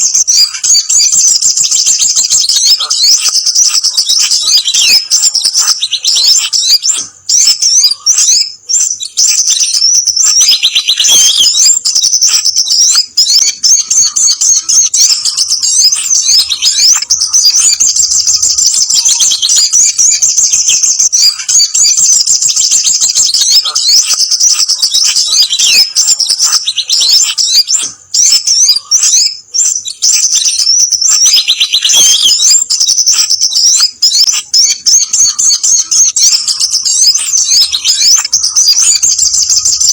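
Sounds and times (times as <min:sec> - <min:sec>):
high rapid bird chirps and trills: 0:00.0 - 0:39.9.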